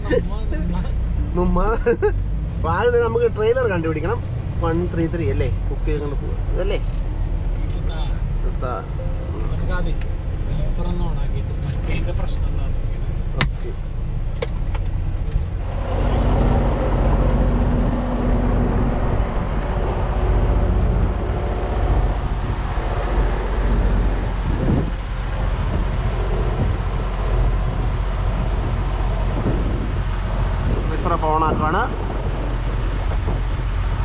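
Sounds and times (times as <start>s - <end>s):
diesel truck engine rumbling: 0.0s - 34.0s.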